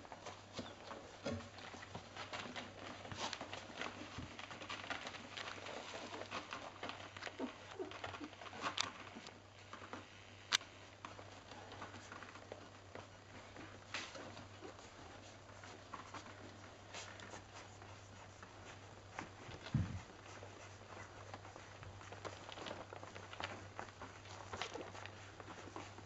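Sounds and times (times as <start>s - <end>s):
puppies suckling clicks: 0.1s - 26.0s.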